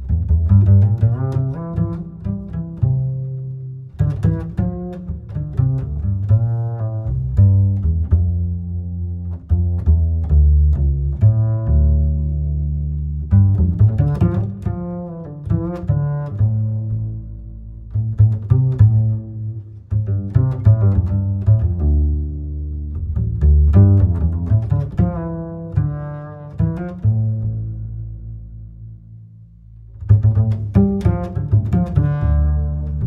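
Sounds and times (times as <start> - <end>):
plucked and bowed low strings: 0.0 - 33.0.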